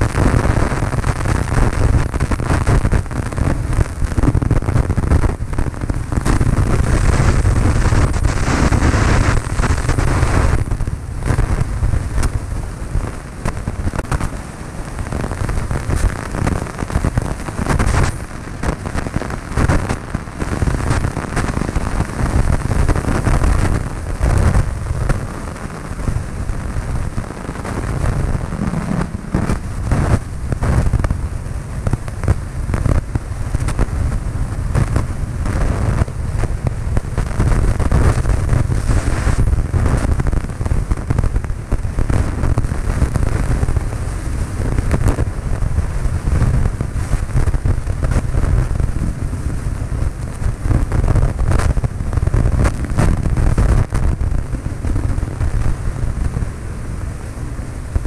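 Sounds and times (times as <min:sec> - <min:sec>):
aircraft engine and airflow rush: 0:00.0 - 0:58.0
wind buffeting on microphone: 0:00.0 - 0:58.0.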